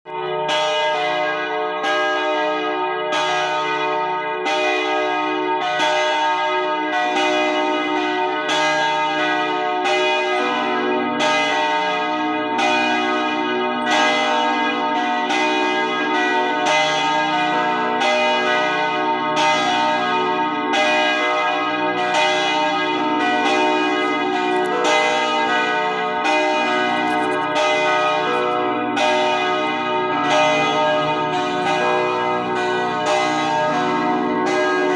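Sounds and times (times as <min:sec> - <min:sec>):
church bells ringing: 0:00.1 - 0:34.9.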